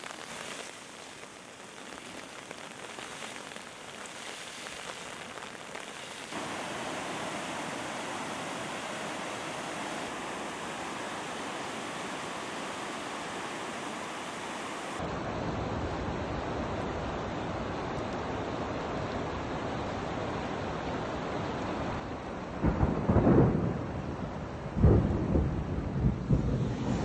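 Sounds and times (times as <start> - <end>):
floodwater rushing: 0.0 - 22.6.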